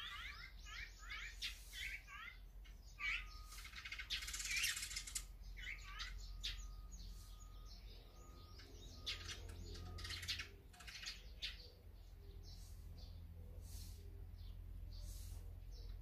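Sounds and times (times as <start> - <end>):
birds chirping: 0.0 - 16.0
buzzy bird calls: 0.0 - 16.0.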